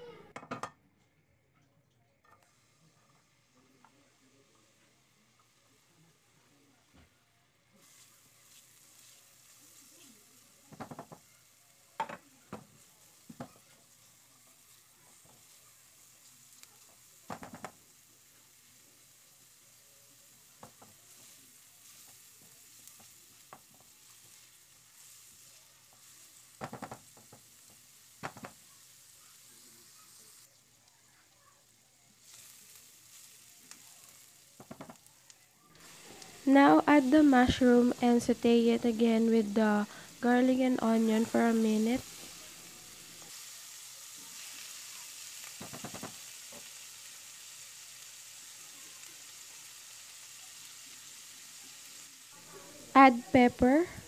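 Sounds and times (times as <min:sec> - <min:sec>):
garlic and onion sizzling in oil: 0:02.2 - 0:54.0.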